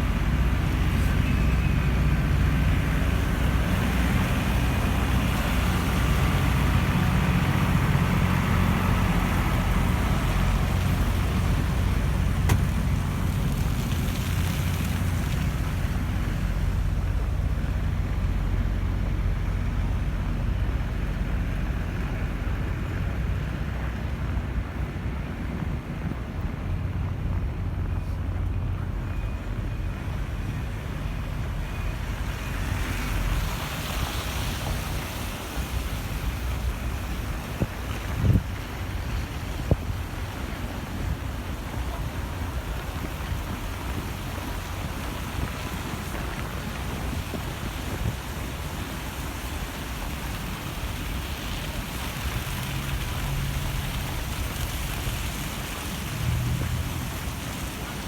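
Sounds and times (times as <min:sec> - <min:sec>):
city street traffic: 0:00.0 - 0:58.0
wind: 0:00.0 - 0:58.0.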